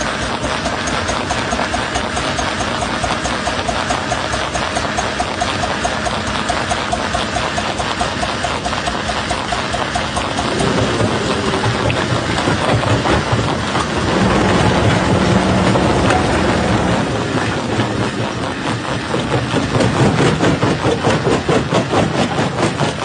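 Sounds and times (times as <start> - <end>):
steady machine hum: 0.0 - 23.0
stone crusher grinding rock: 0.0 - 23.0.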